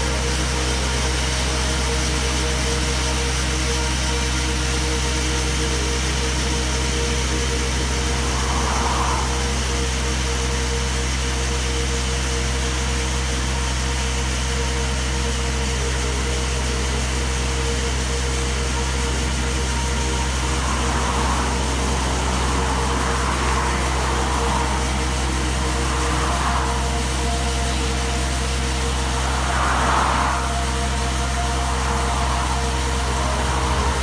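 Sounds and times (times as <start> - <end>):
diesel coring rig running: 0.0 - 34.0
steady whine: 0.0 - 34.0.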